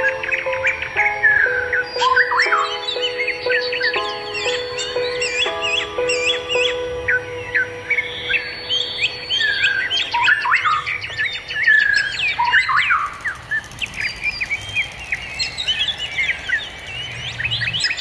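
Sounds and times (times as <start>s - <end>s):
songbirds chirping and calling: 0.0s - 18.0s.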